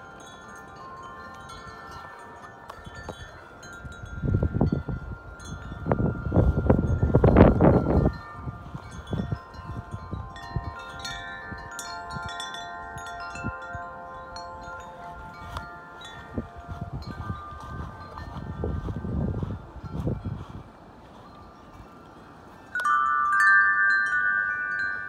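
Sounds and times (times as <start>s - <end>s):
wind chimes ringing: 0.0s - 25.0s
wind gust on microphone: 0.0s - 25.0s.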